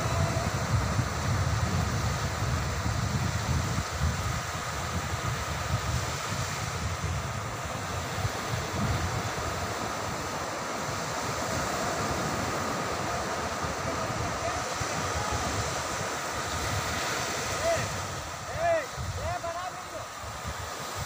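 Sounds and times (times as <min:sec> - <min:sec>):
surf breaking on beach: 0:00.0 - 0:21.0
wind on microphone: 0:00.0 - 0:21.0.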